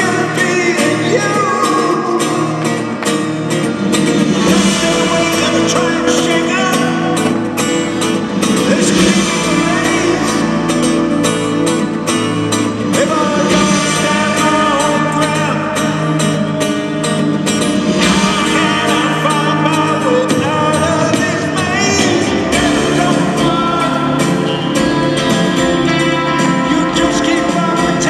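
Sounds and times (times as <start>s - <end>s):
person singing: 0.0s - 3.3s, 4.3s - 17.2s, 17.8s - 28.0s
guitar: 0.0s - 28.0s
live rock band playing: 0.0s - 28.0s.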